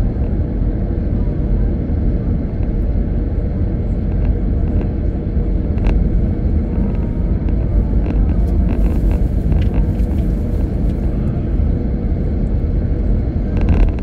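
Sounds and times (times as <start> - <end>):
car tyre and road noise: 0.0 - 14.0
car engine: 1.9 - 14.0.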